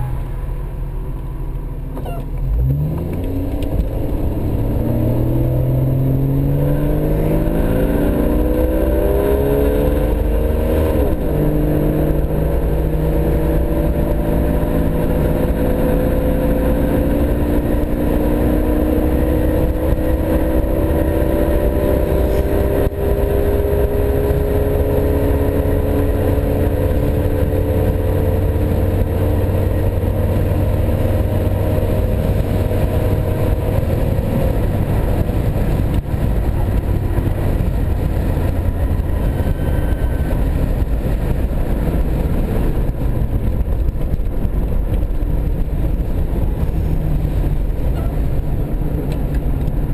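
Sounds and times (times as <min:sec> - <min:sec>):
car engine revving: 0:01.8 - 0:49.9.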